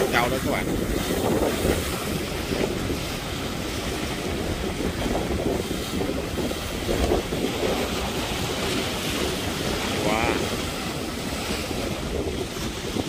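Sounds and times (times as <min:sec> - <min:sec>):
sea waves breaking and splashing: 0:00.0 - 0:13.0
wind buffeting microphone: 0:00.0 - 0:13.0.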